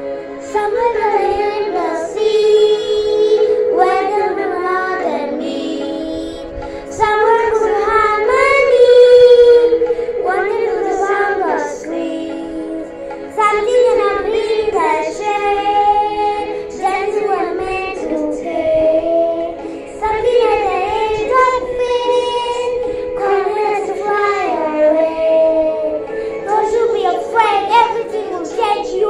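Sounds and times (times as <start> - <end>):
backing song recording: 0.0 - 29.0
girl singing into microphone: 0.4 - 29.0.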